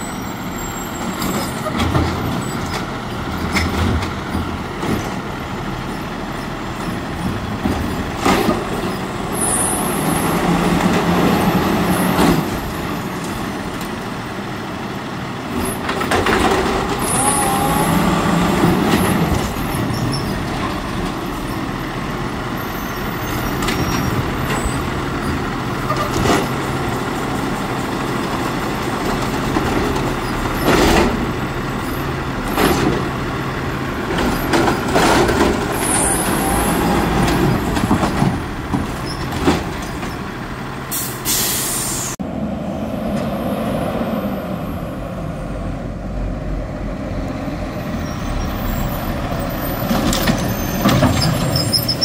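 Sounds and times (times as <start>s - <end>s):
garbage truck engine revving: 1.0s - 52.0s.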